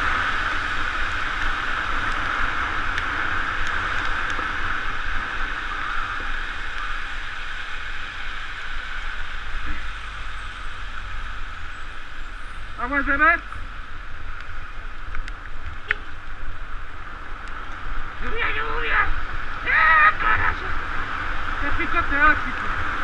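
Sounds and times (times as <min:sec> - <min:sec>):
wind on camera: 0:00.0 - 0:23.0.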